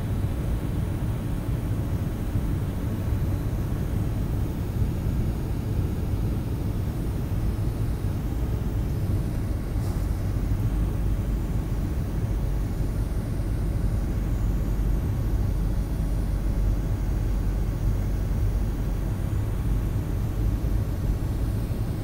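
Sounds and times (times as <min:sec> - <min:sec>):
airliner engines rumbling in cabin: 0:00.0 - 0:22.0.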